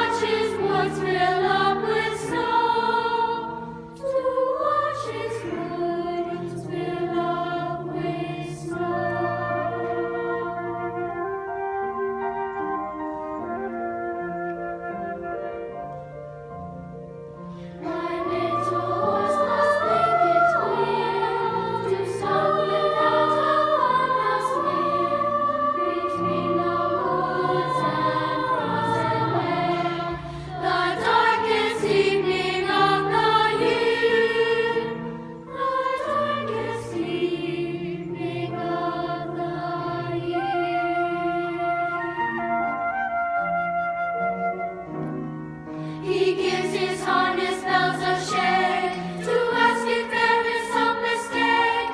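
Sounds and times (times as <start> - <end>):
instrumental accompaniment: 0.0 - 51.9.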